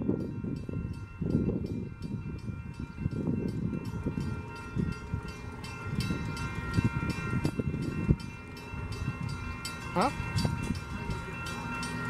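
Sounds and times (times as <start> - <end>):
distant freight train rumble: 0.0 - 12.0
rapid bell ringing: 0.0 - 12.0.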